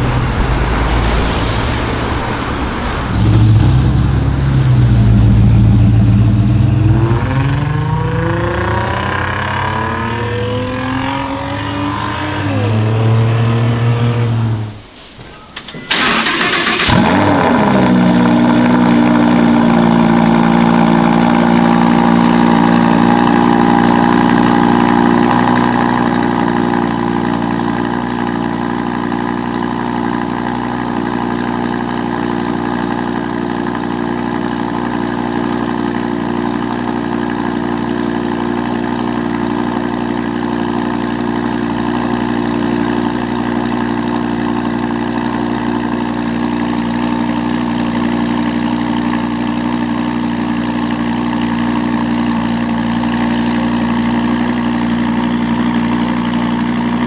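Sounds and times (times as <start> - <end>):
car engine idling: 0.0 - 13.4, 14.1 - 57.0.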